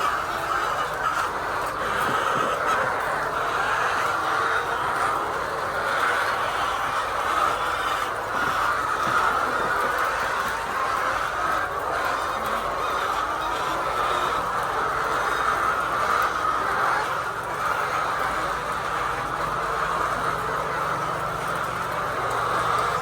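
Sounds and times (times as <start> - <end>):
hens clucking and cackling: 0.0 - 23.0.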